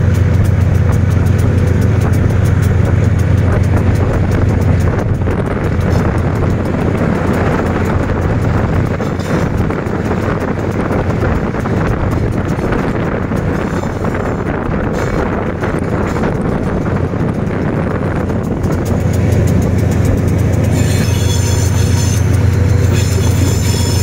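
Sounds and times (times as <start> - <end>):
constant rattle: 0.0 - 24.0
locomotive drone: 0.0 - 24.0.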